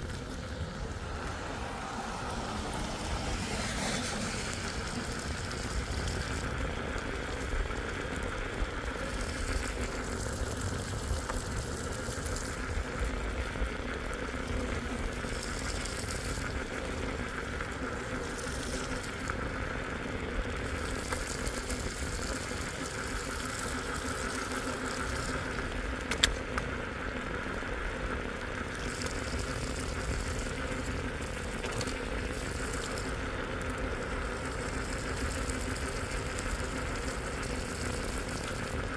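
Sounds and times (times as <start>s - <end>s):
rain and wet tyres hissing: 0.0s - 38.9s
vehicle engine hum: 0.0s - 38.9s.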